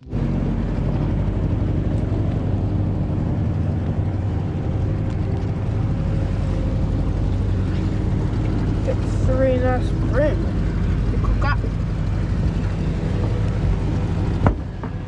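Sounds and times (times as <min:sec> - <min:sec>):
boat motor humming: 0:00.0 - 0:15.0
wind: 0:00.0 - 0:15.0.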